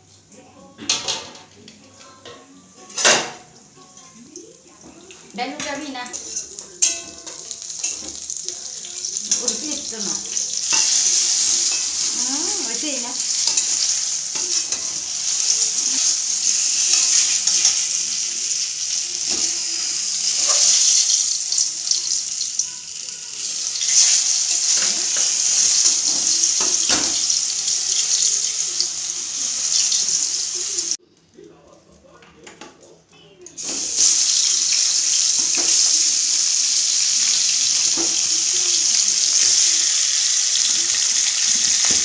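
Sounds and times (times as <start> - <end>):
slices frying in hot oil: 4.4 - 31.0, 33.6 - 42.0.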